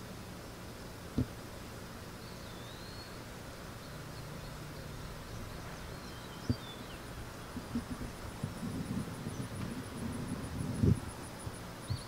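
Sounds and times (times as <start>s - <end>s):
steady low hum: 0.0s - 12.0s
faint bird chirps: 2.1s - 12.0s.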